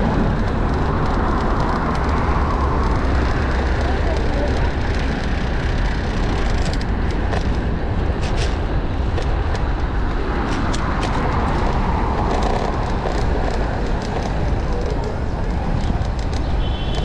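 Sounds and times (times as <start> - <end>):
city traffic: 0.0 - 17.0
wind on microphone: 0.0 - 17.0.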